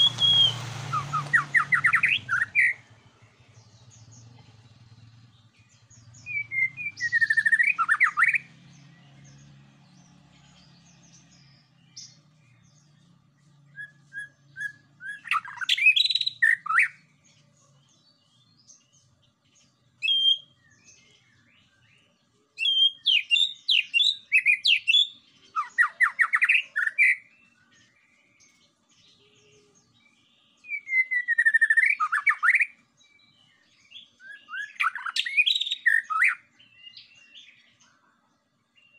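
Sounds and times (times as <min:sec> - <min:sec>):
bird singing whistled notes: 0:00.0 - 0:17.4, 0:19.6 - 0:38.1.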